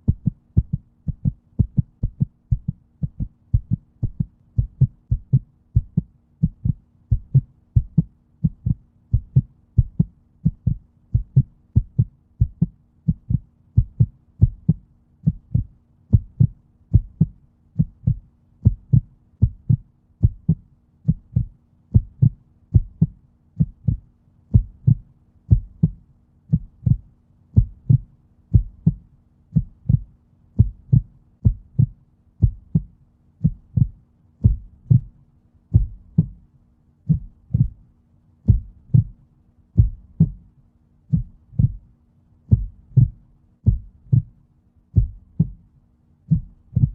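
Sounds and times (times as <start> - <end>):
heartbeat: 0.0 - 37.9, 38.5 - 40.5, 41.1 - 46.9.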